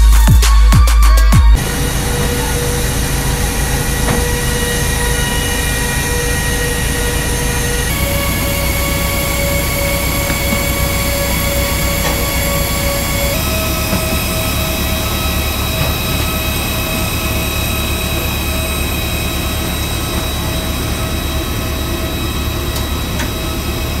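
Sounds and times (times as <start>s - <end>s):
jet turbine whine: 1.5s - 24.0s.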